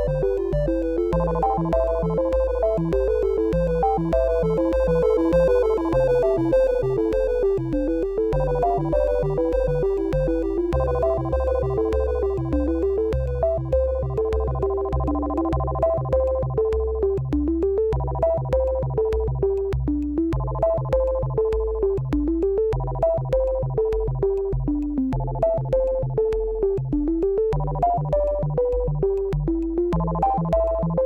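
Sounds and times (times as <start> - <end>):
electronic music with synthesizer: 0.0 - 31.0.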